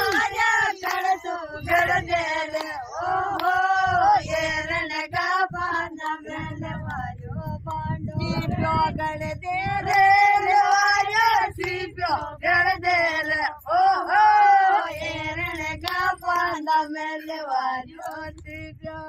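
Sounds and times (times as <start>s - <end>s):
women singing together: 0.0s - 19.0s.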